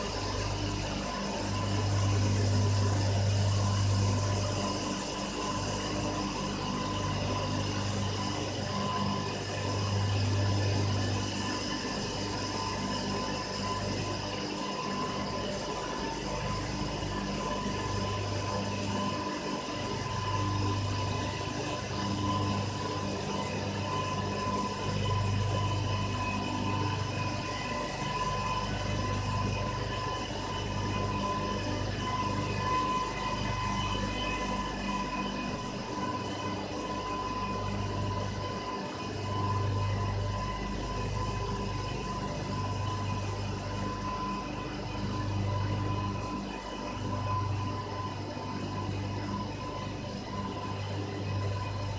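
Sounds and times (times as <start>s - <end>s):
machine drone with low hum: 0.0s - 51.9s.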